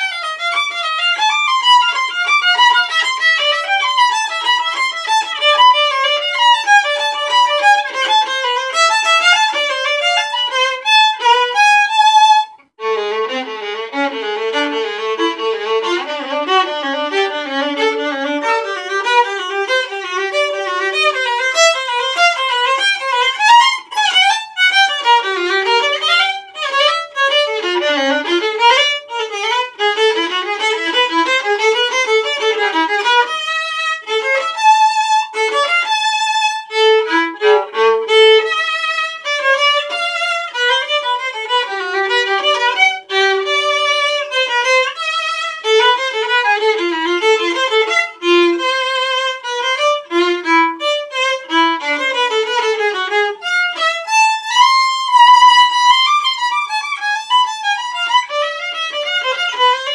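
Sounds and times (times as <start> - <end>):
solo violin bowed: 0.0 - 59.9.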